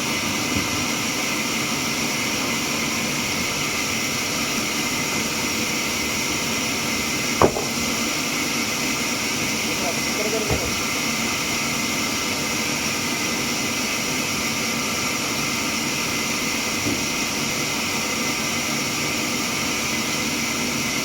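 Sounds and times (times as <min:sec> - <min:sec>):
sawmill machinery hissing: 0:00.0 - 0:21.0.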